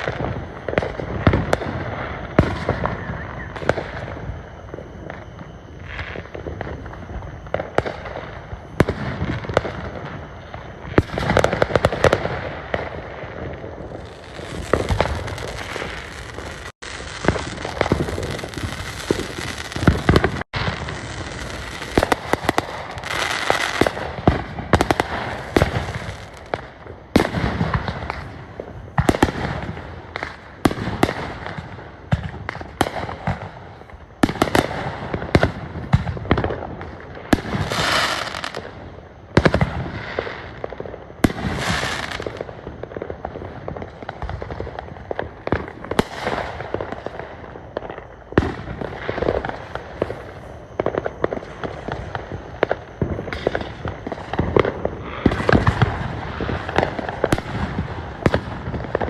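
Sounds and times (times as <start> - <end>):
dense fireworks crackling: 0.0 - 59.0
fireworks bangs and pops: 0.0 - 59.0.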